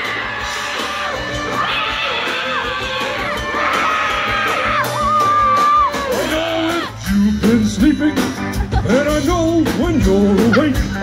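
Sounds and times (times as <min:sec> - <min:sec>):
live band playing amplified music: 0:00.0 - 0:11.0.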